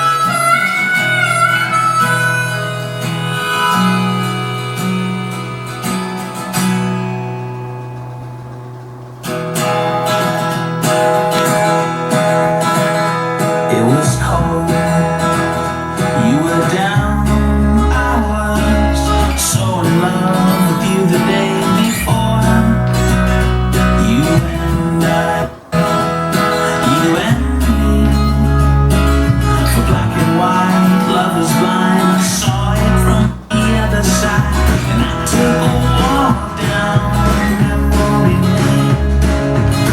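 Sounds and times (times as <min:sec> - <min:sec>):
strummed acoustic guitar: 0:00.0 - 0:39.9
deep bass line: 0:01.0 - 0:39.9.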